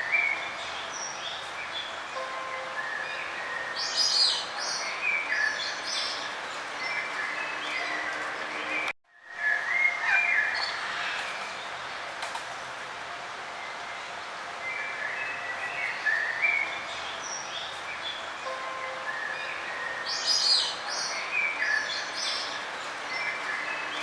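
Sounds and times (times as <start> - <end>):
songbirds chirping: 0.0 - 24.0
steady outdoor hiss: 0.0 - 24.0.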